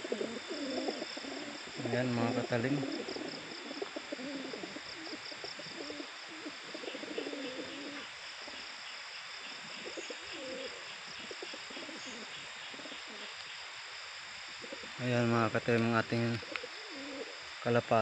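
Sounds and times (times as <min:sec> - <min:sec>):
pigeons cooing: 0:00.0 - 0:13.4, 0:14.5 - 0:17.5.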